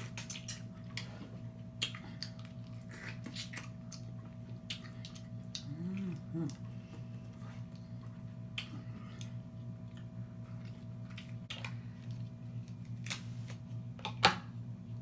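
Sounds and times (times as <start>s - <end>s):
person chewing and smacking: 0.0s - 13.2s
steady low hum: 0.0s - 15.0s.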